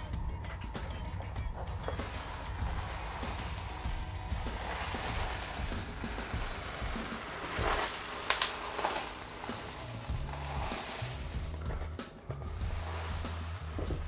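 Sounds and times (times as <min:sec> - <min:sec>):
wallpaper ripping off wall: 0:01.6 - 0:14.0.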